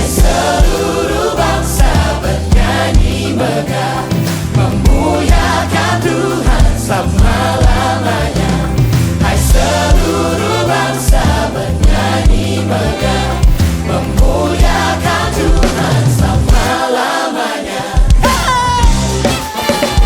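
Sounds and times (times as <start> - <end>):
choir and band playing gospel: 0.0 - 20.0.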